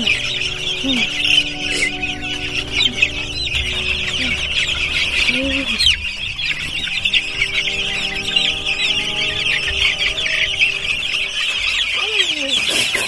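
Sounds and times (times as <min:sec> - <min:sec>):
steady low hum: 0:00.0 - 0:12.0
chicks peeping: 0:00.0 - 0:13.0.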